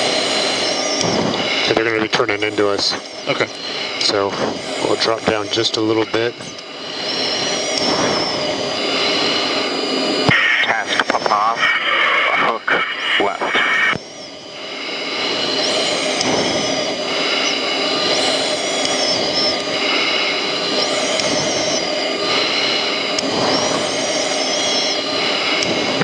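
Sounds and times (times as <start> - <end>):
high wavering whine: 0.0 - 26.0
jet engine and airflow noise: 0.0 - 26.0.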